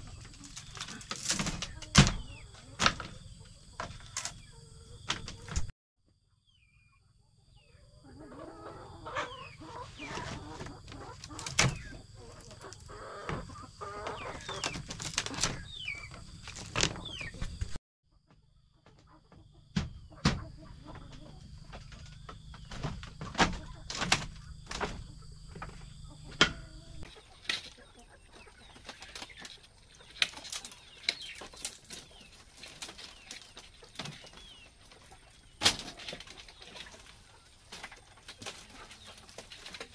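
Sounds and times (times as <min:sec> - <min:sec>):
chickens clucking: 0:00.0 - 0:05.7, 0:06.4 - 0:39.9.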